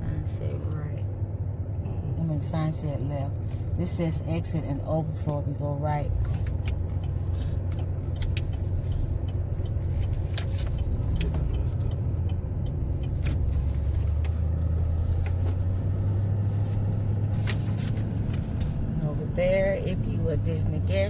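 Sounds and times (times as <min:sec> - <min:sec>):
vehicle engine and road drone: 0:00.0 - 0:21.0.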